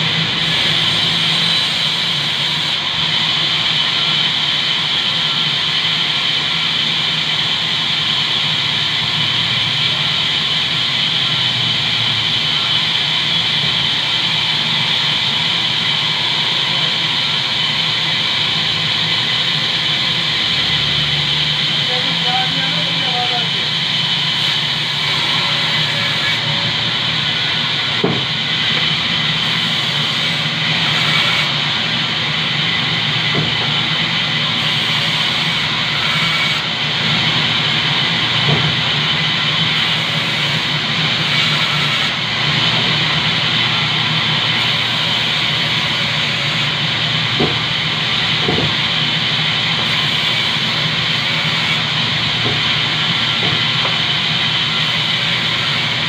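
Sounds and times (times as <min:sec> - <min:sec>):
band saw cutting wood: 0:00.0 - 0:56.0.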